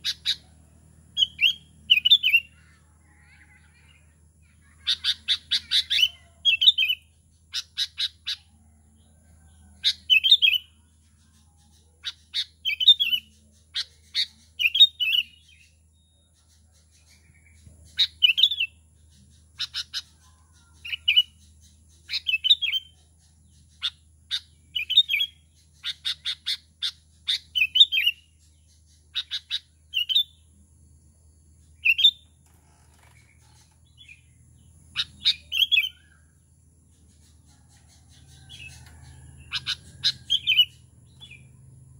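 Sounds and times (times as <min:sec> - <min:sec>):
bird chirping calls: 0:00.0 - 0:41.9.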